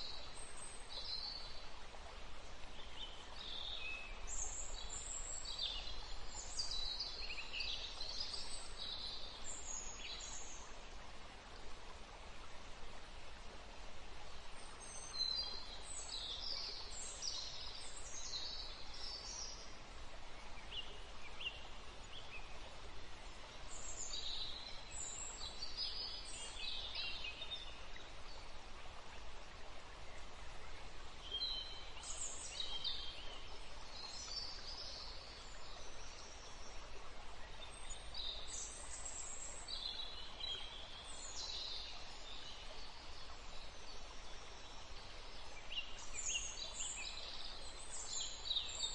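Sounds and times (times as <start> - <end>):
steady background hiss: 0.0 - 48.9.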